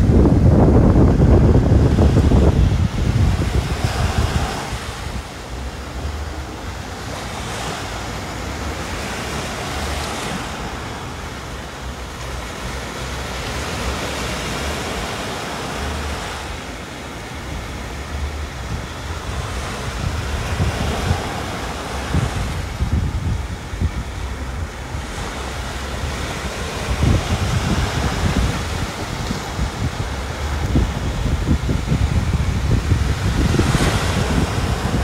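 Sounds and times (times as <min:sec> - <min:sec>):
small waves breaking on sand: 0:00.0 - 0:35.0
wind buffeting microphone: 0:00.0 - 0:35.0.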